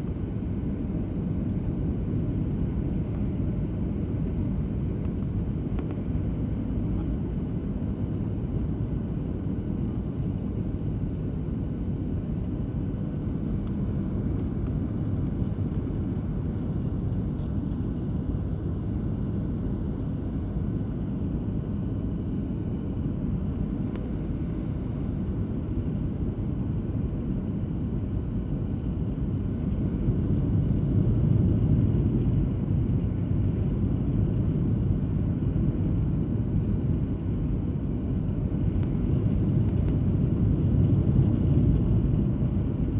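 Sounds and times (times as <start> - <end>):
airliner cabin engine rumble: 0.0 - 42.9.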